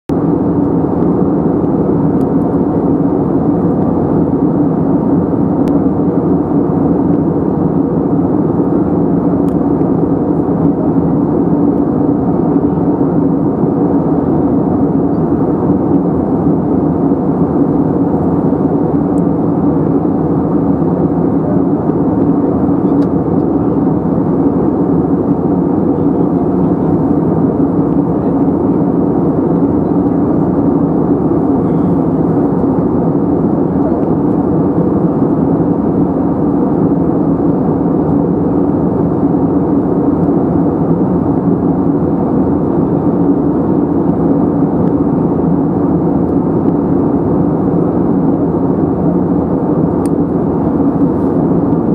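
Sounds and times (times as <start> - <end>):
airplane cabin rumble: 0.1 - 51.9
low hum: 0.1 - 51.9.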